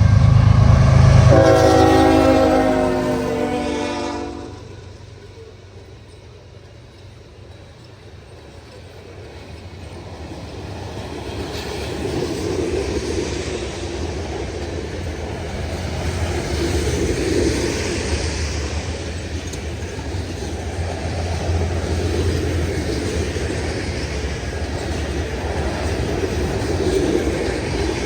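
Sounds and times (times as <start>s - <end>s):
freight train passing: 0.0s - 28.0s.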